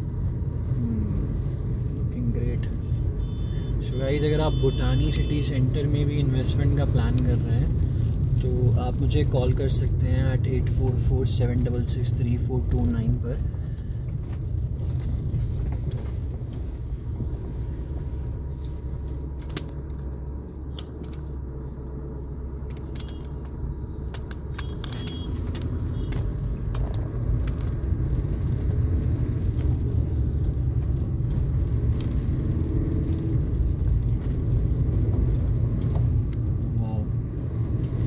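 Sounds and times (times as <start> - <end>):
car road rumble: 0.0 - 38.0.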